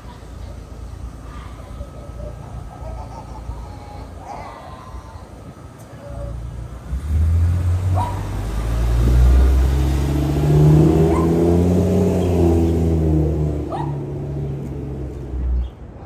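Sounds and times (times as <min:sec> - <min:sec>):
bus engine accelerating: 0:00.0 - 0:16.0.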